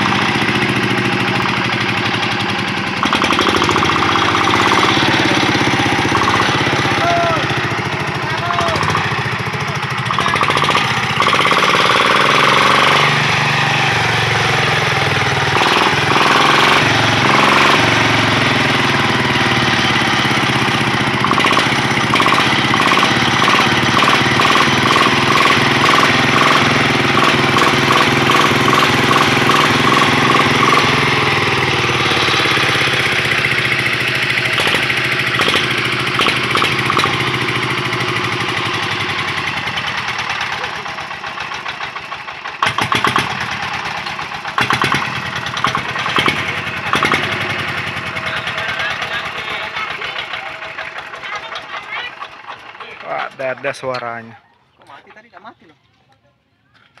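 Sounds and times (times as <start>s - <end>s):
diesel hand tractor engine: 0.0s - 56.0s.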